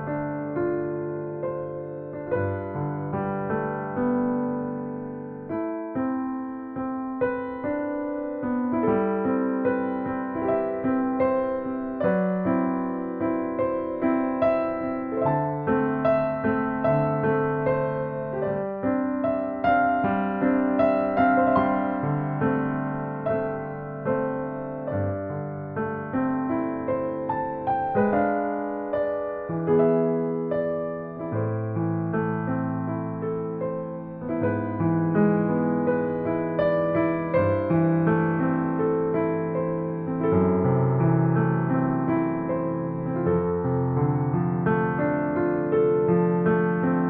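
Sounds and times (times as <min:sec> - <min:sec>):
electric piano chords: 0:00.0 - 0:47.0.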